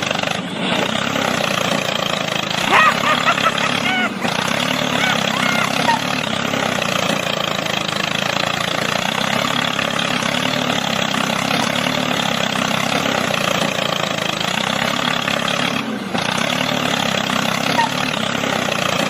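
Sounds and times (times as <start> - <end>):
mini tractor engine running: 0.0 - 19.0.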